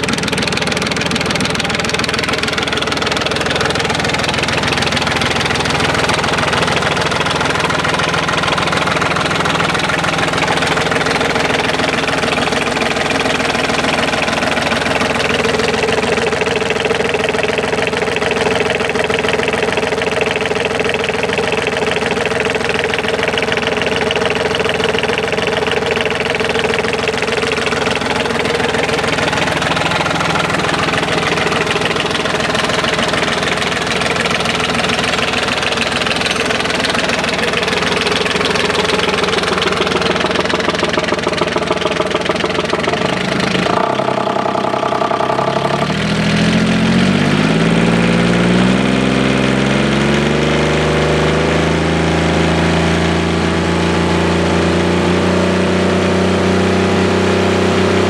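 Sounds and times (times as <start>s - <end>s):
diesel engine revving up: 0.0s - 58.0s.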